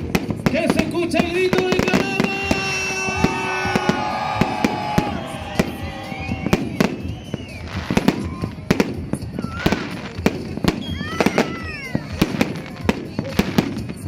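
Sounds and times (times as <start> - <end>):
fireworks and firecrackers banging: 0.0 - 14.0
music: 0.0 - 14.0.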